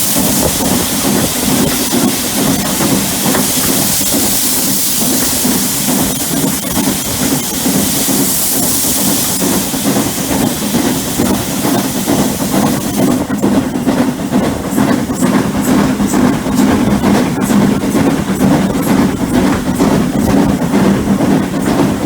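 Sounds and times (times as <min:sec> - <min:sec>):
steam hissing: 0:00.0 - 0:22.0
train rumbling: 0:00.0 - 0:22.0.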